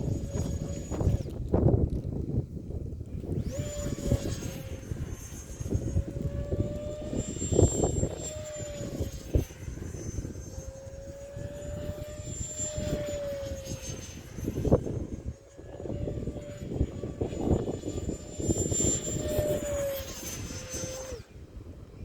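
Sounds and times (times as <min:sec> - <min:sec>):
electric ducted fan whining: 0:00.0 - 0:22.0
wind buffeting microphone: 0:00.0 - 0:22.0.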